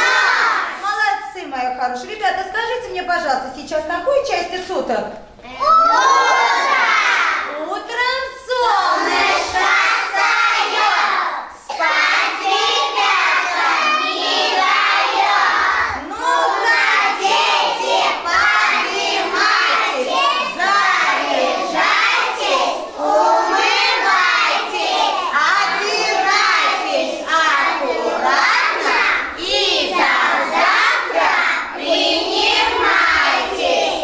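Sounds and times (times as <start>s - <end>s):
children singing in unison: 0.0s - 0.8s, 5.7s - 7.5s, 8.9s - 34.0s.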